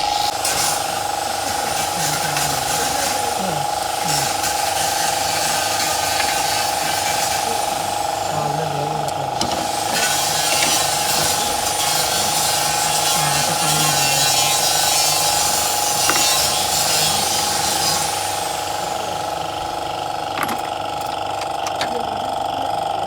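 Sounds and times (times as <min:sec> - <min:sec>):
machine whine over hiss: 0:00.0 - 0:22.9.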